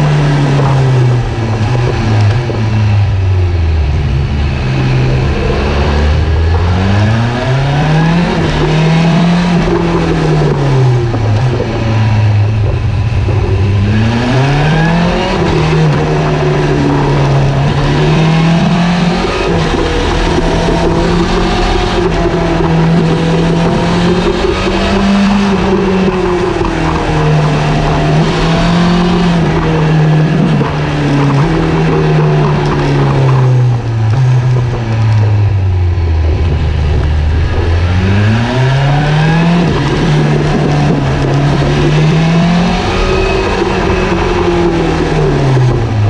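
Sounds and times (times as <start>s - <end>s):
motorcycle engine: 0.0s - 46.0s
road and wind noise: 0.0s - 46.0s.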